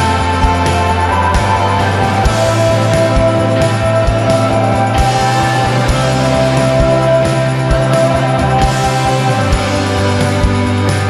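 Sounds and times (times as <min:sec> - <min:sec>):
held bass notes: 0:00.0 - 0:11.0
low drum beat: 0:00.0 - 0:11.0.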